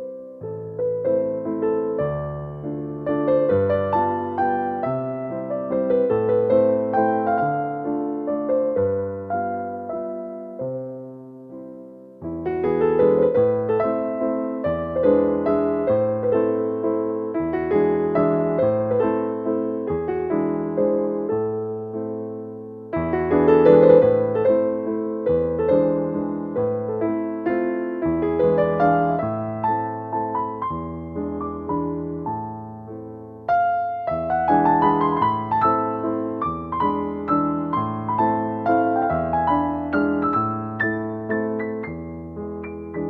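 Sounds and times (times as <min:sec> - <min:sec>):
slow gentle piano music: 0:00.0 - 0:43.0.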